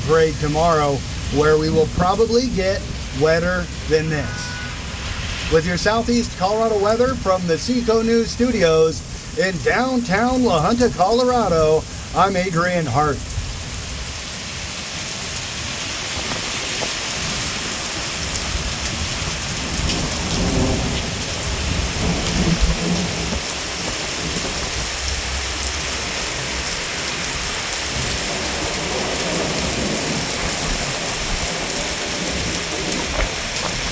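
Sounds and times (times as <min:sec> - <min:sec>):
thunder rumbling: 0:00.0 - 0:14.1, 0:18.2 - 0:33.9
heavy rain on street: 0:00.0 - 0:33.9.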